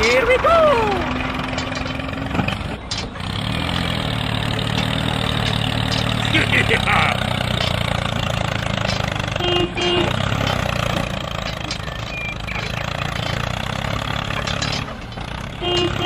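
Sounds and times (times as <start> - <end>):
high tooting tones: 0.0 - 16.0
small tractor engine chugging: 0.0 - 16.0.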